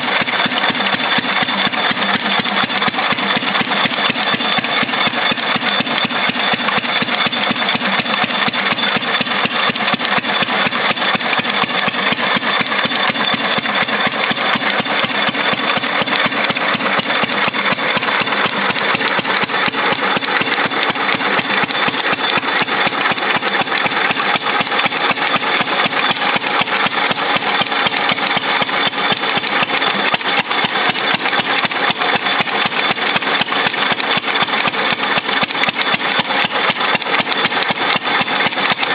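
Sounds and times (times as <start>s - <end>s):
generator engine running: 0.0s - 38.9s.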